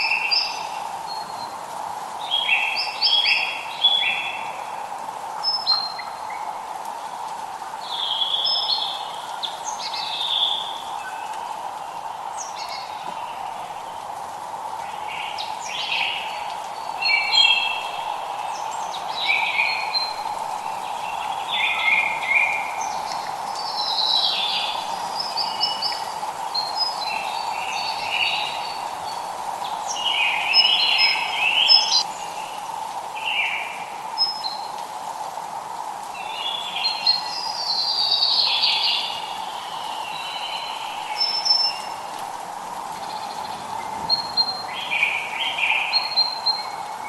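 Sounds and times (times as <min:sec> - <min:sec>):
songbirds singing: 0:00.0 - 0:34.8, 0:36.1 - 0:42.2, 0:42.8 - 0:47.0
light rain hiss: 0:00.0 - 0:47.0.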